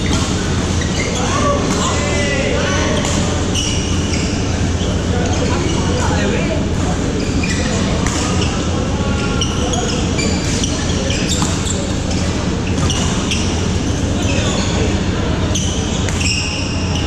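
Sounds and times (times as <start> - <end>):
rumble of voices: 0.0 - 17.0
shoes squeaking on court floor: 0.0 - 17.0.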